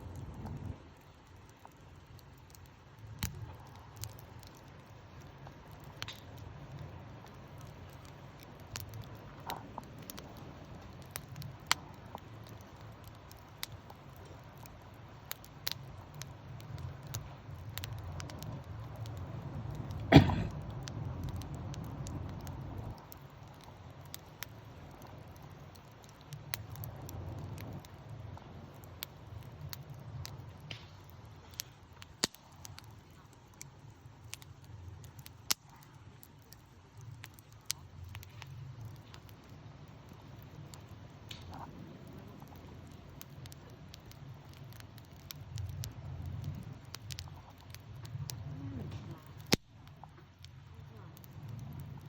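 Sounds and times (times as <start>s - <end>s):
campfire crackling and popping: 0.0s - 52.0s
low fire rumble: 0.0s - 52.0s.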